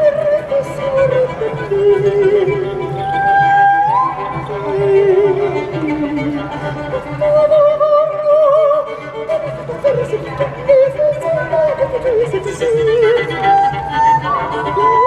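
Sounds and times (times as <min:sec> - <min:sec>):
violin playing slow melody: 0:00.0 - 0:15.0.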